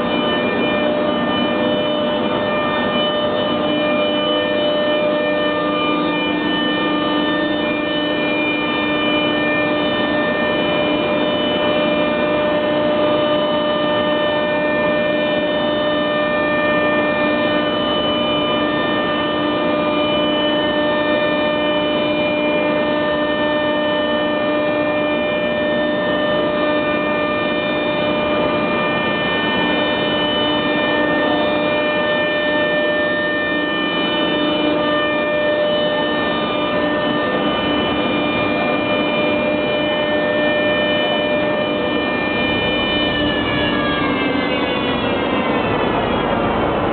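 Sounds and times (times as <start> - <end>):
machine whine: 0.0 - 46.9.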